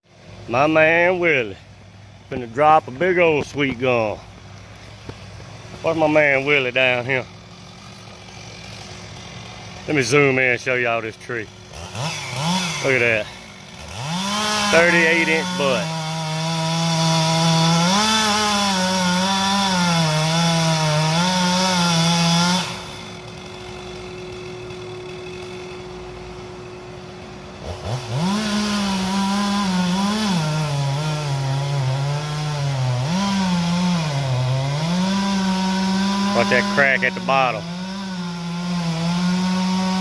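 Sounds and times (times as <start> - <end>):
chainsaw cutting tree trunk: 0.1 - 40.0.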